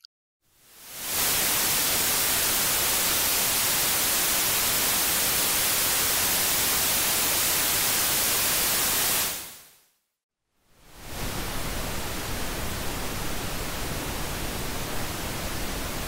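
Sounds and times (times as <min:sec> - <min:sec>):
white noise hiss: 0:00.5 - 0:09.8, 0:10.6 - 0:16.0.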